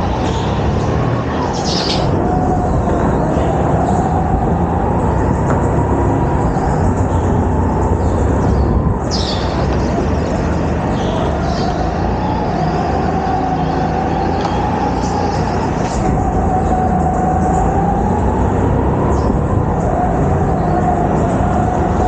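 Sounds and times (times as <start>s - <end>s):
continuous rumble: 0.0s - 22.0s
go-kart motor whine: 0.0s - 22.0s.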